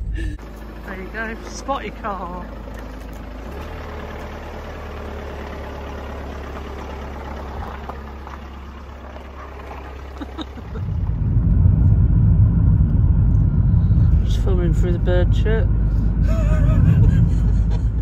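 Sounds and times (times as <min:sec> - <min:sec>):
car driving rumble inside cabin: 0:00.0 - 0:18.0
car engine idling: 0:00.0 - 0:18.0.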